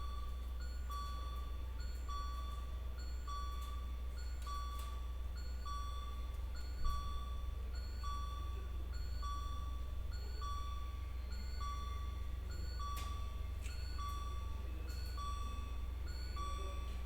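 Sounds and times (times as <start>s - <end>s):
steady low hum: 0.0s - 17.0s
two-tone chime: 0.0s - 17.0s.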